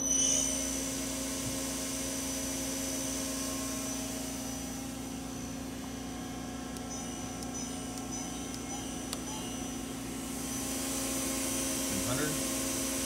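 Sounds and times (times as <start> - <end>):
high-pitched whine: 0.0 - 13.0
lathe spindle whirring: 0.0 - 13.0.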